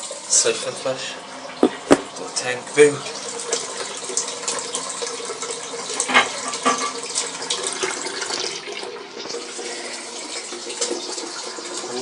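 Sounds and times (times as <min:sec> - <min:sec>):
toilet cistern refilling: 0:00.0 - 0:12.0.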